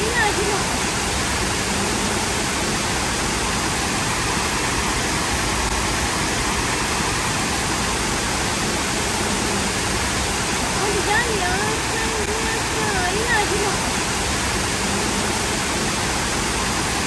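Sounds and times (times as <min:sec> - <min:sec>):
water cascading down concrete steps: 0:00.0 - 0:17.0.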